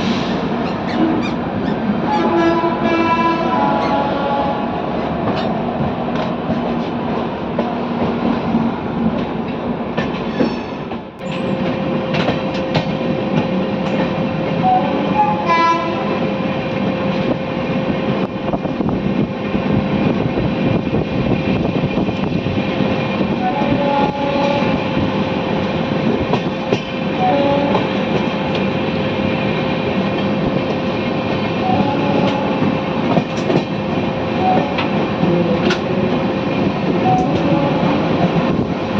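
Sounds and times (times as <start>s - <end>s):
steady train hum: 0.0s - 38.9s
train wheels clattering on rails: 5.0s - 14.8s, 16.6s - 38.9s.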